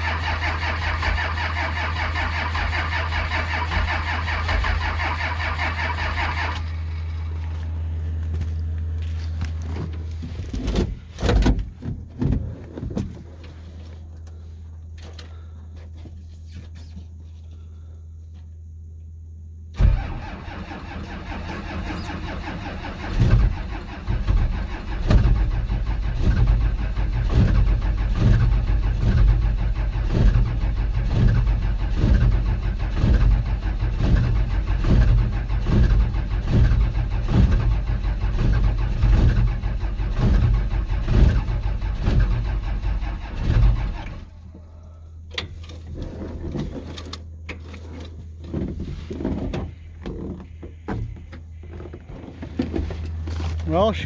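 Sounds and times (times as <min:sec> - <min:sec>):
diesel engine starter cranking: 0:00.0 - 0:16.0, 0:19.7 - 0:54.0.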